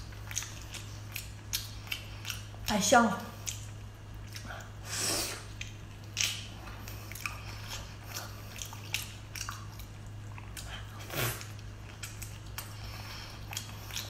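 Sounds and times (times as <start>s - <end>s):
wet chewing and lip smacks: 0.0s - 4.8s, 5.4s - 14.0s
steady low hum: 0.0s - 14.0s.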